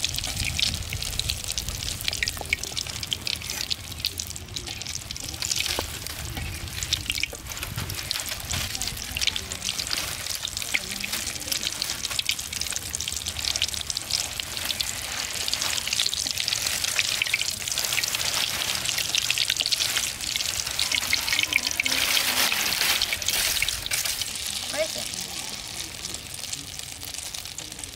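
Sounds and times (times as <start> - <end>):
egg sizzling in hot oil: 0.0 - 27.9.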